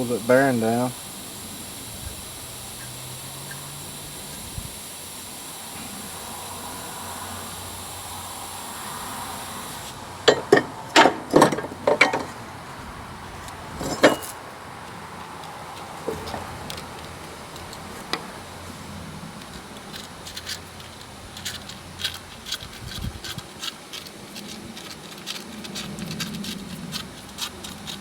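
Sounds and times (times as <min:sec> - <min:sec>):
steady high hiss: 0:00.0 - 0:22.6.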